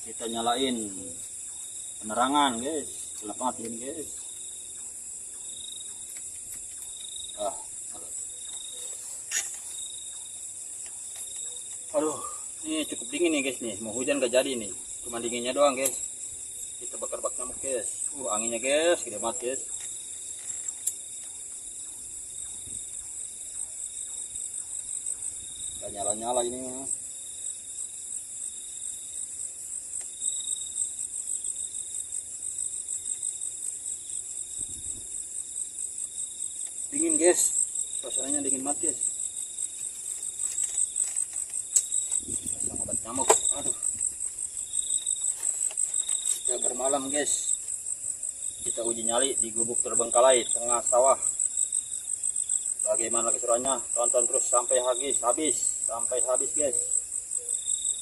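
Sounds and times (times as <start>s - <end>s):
crickets chirring: 0.0s - 58.0s
night insects calling: 0.0s - 58.0s.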